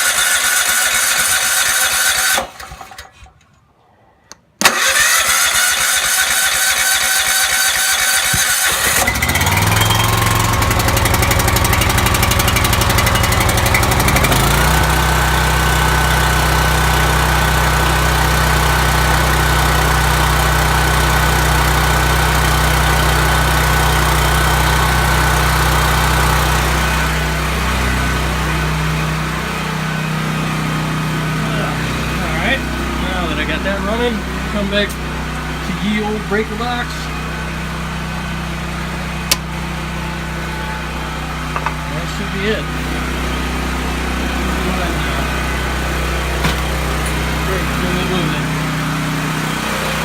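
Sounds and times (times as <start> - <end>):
generator engine running: 0.0 - 3.2, 4.6 - 50.0.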